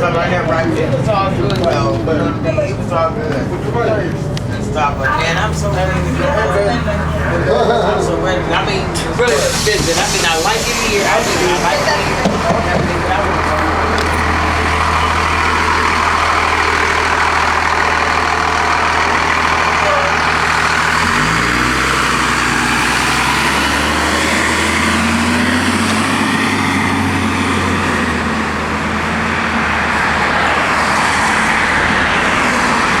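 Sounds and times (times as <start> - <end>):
bus diesel engine running: 0.0 - 33.0
road and cabin noise: 0.0 - 33.0.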